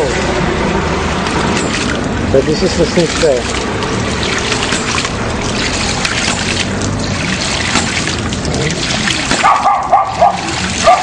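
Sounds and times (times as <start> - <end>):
water rushing and spurting: 0.0 - 11.0.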